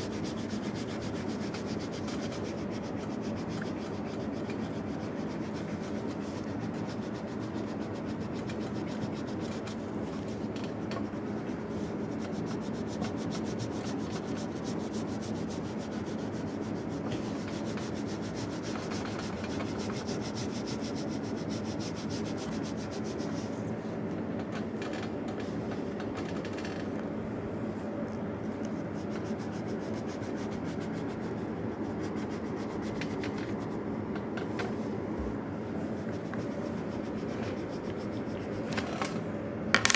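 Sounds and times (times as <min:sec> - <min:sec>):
crayon scratching on paper: 0:00.0 - 0:23.6, 0:28.5 - 0:34.0, 0:35.7 - 0:38.8.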